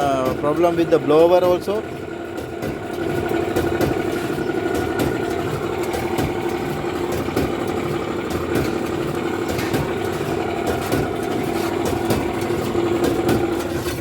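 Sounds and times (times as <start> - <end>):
clothes dryer humming: 0.0 - 14.0
knocking and rattling clicks: 0.0 - 14.0.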